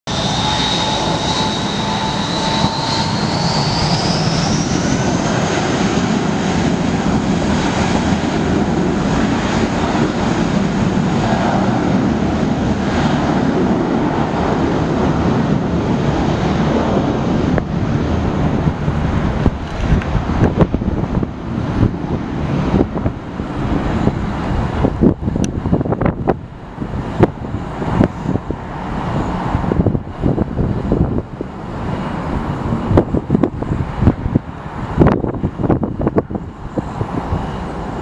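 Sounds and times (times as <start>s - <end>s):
jet engine fan whine: 0.0s - 38.0s
jet engine roar: 0.0s - 38.0s.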